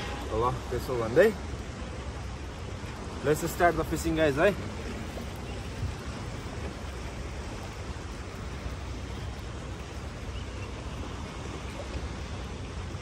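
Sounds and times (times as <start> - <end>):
sea surf: 0.0 - 13.0
wind rumbling on microphone: 0.0 - 13.0.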